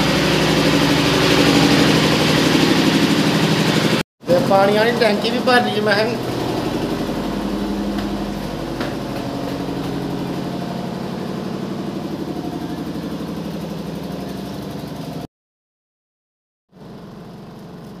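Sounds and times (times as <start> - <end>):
small generator engine idling: 0.0 - 15.3, 16.8 - 18.0.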